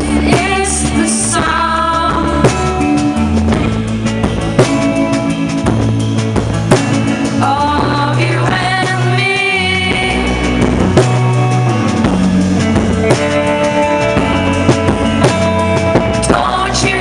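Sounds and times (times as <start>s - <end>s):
pop-rock band playing: 0.0s - 17.0s.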